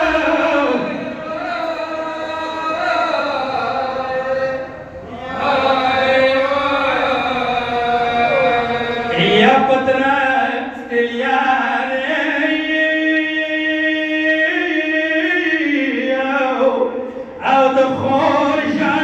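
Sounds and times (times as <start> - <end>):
man chanting a lament: 0.0 - 19.0.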